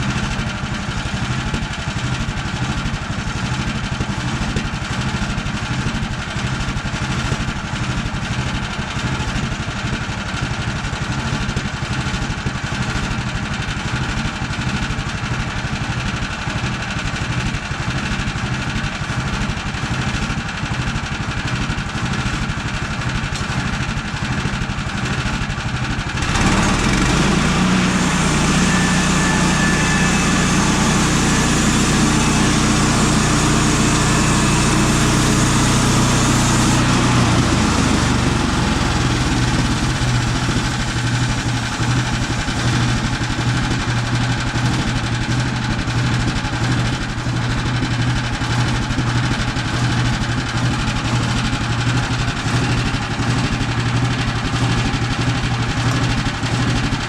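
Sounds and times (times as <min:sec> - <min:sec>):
gas engine running: 0:00.0 - 0:57.0.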